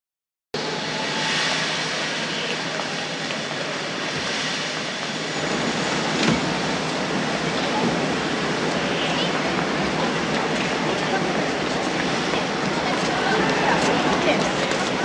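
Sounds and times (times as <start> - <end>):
steam locomotive hissing: 0.6 - 15.0.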